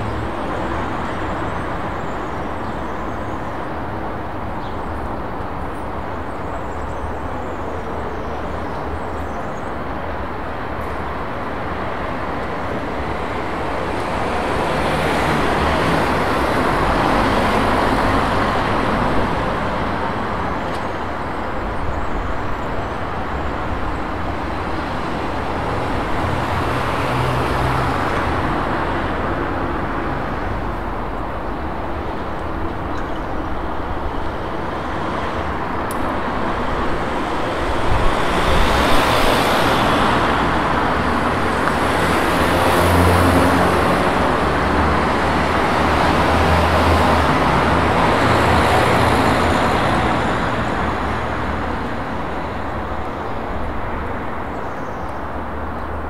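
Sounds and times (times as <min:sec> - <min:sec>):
passing cars road noise: 0:00.0 - 0:56.0.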